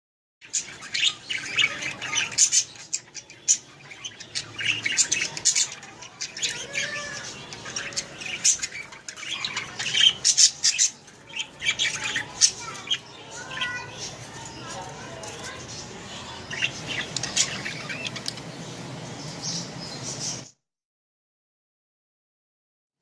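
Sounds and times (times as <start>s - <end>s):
budgerigars chirping and squawking: 0.4s - 20.6s.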